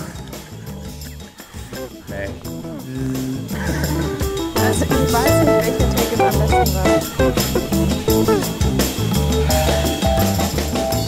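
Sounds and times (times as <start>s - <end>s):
instrumental music with drums and bass: 0.0s - 11.0s.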